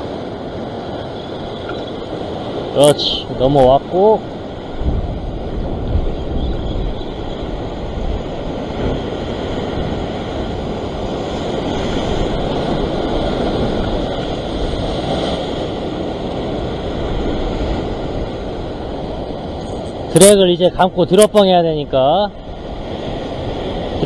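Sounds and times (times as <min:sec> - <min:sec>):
sea surf washing: 0:00.0 - 0:24.0
wind buffeting microphone: 0:00.0 - 0:24.0.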